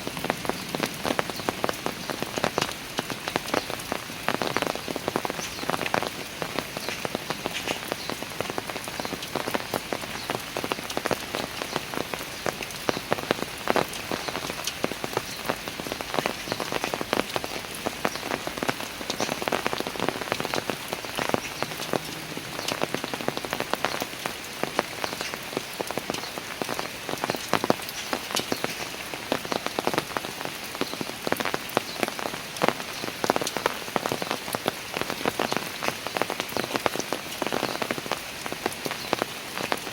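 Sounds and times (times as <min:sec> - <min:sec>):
rain falling on stairs: 0:00.0 - 0:39.9
raindrops tapping and splashing: 0:00.0 - 0:39.9.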